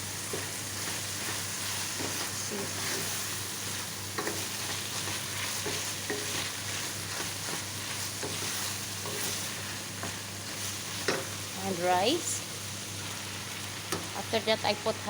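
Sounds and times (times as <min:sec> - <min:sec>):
beans sizzling in a pot: 0:00.0 - 0:15.0.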